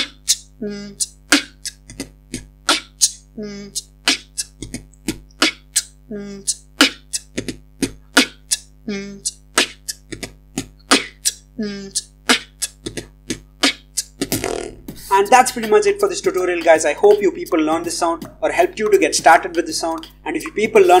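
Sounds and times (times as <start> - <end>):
beatboxing mouth clicks: 0.0 - 21.0.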